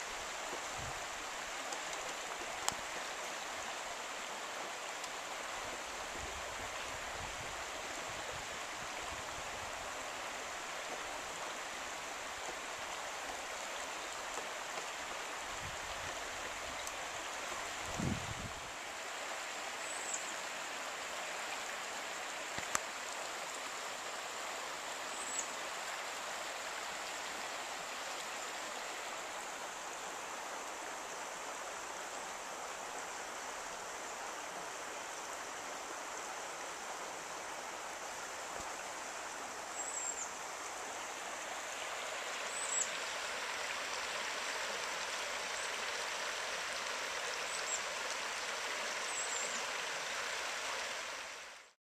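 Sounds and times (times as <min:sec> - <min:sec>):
creek water running: 0:00.0 - 0:51.8.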